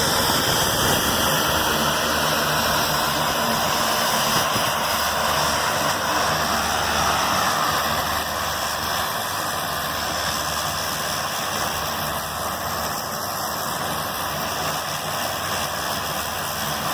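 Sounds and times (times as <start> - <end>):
propeller engine droning: 0.0 - 16.9.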